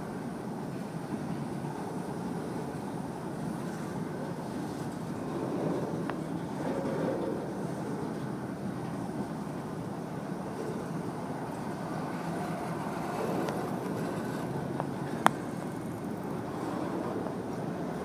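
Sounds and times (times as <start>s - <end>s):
freight wheels rumbling on track: 0.0s - 18.0s.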